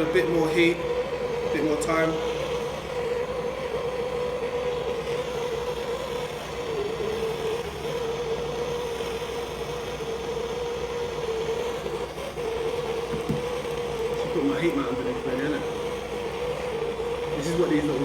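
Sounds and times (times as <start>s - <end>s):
blowtorch flame hissing: 0.0s - 18.0s.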